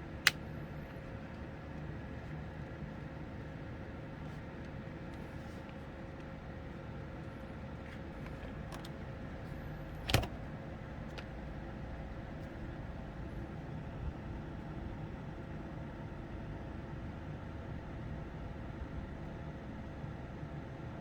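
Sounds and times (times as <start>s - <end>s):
steady low hum: 0.0s - 19.4s.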